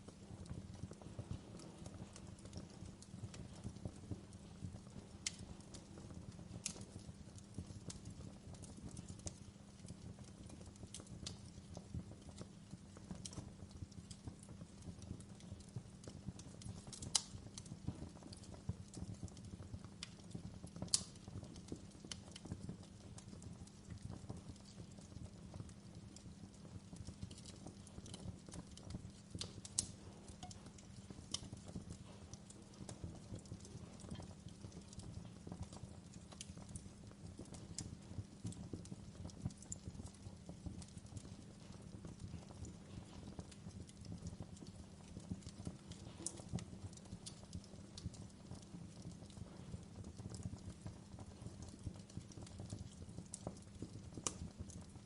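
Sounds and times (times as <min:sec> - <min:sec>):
fire popping: 0:00.0 - 0:55.0
wood fire crackling: 0:00.0 - 0:55.0.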